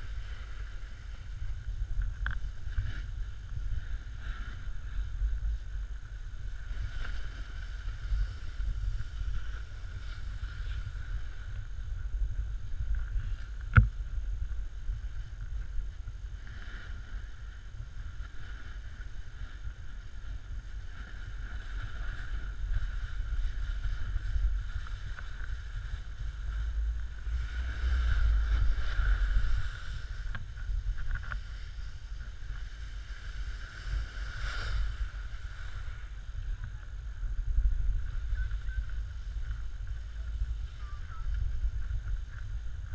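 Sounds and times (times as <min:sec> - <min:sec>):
snowboard rumbling over snow: 0:00.0 - 0:42.9
wind on microphone: 0:00.0 - 0:42.9.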